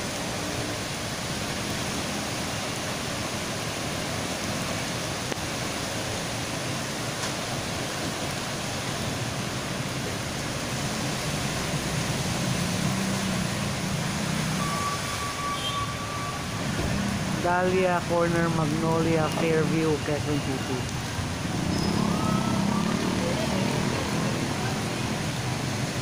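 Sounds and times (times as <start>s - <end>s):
floodwater running: 0.0s - 26.0s
heavy rain downpour: 0.0s - 26.0s
vehicle driving through water: 0.0s - 26.0s.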